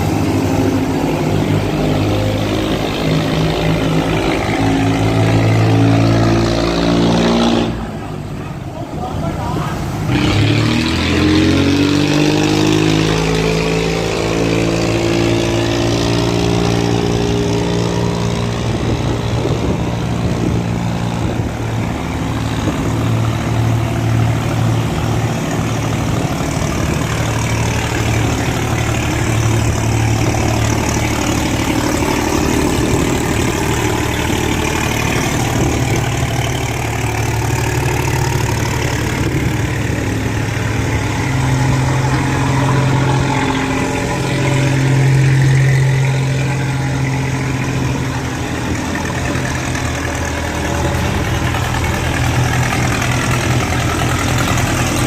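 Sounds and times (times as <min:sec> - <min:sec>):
boat engines running under load: 0:00.0 - 0:55.0.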